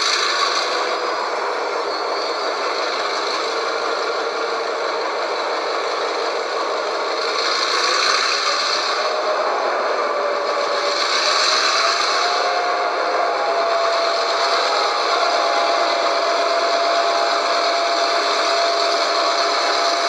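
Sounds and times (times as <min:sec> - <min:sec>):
model train wheels rattling: 0:02.5 - 0:09.6, 0:10.2 - 0:20.0.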